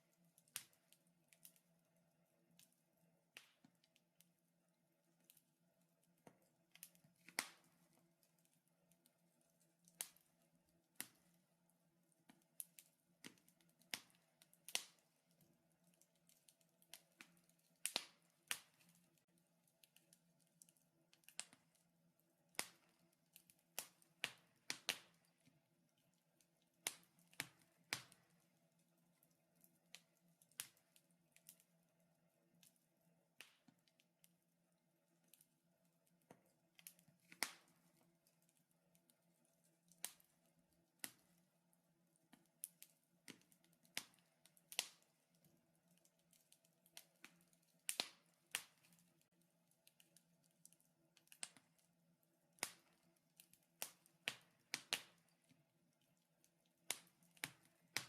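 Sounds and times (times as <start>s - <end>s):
wood fire crackling: 0.0s - 4.4s, 5.0s - 34.4s, 35.0s - 58.0s.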